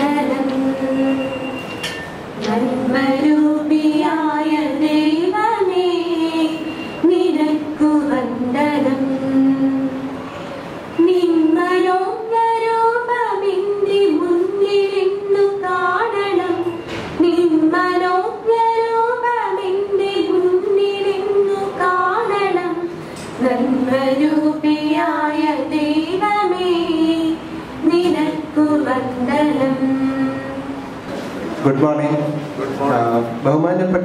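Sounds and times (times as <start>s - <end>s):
women singing together: 0.0s - 10.2s, 10.9s - 31.2s.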